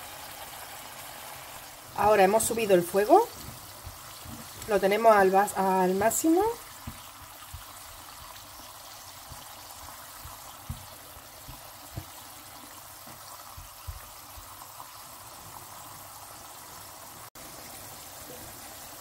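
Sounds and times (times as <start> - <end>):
wine sizzling in a pan: 0.0 - 19.0.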